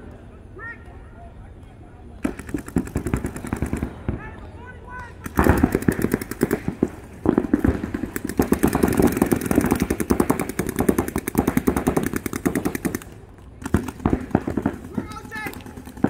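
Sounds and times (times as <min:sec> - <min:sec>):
paintball markers firing: 0:02.2 - 0:04.4, 0:05.0 - 0:16.0.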